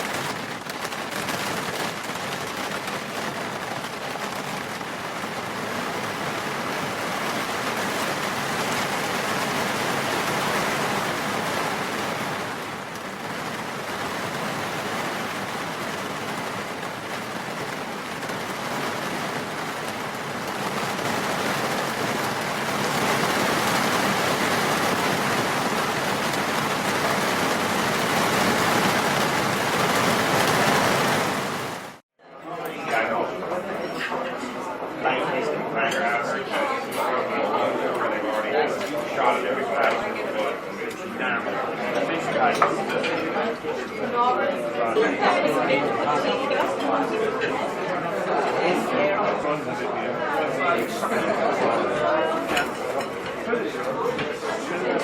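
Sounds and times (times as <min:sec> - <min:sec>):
steady rain: 0:00.0 - 0:32.0, 0:36.0 - 0:55.0.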